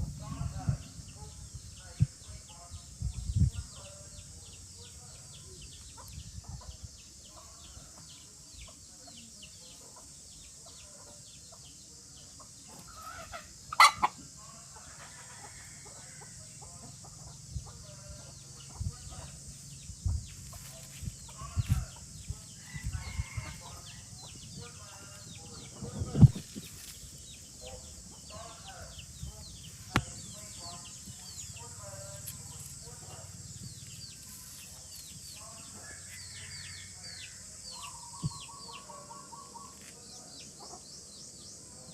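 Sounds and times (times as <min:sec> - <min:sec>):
young chickens clucking: 0:03.1 - 0:36.8, 0:37.6 - 0:41.1.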